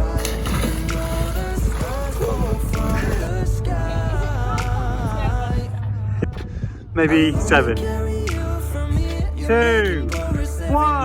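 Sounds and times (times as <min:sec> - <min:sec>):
background music with singing: 0:00.0 - 0:11.0
steady low rumble: 0:00.0 - 0:11.0.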